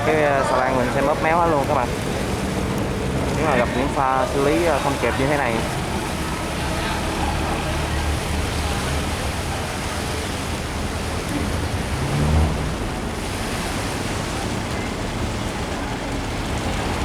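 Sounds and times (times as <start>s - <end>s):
boat engine hum: 0.0s - 17.0s
water rushing through sluice gate: 0.0s - 17.0s.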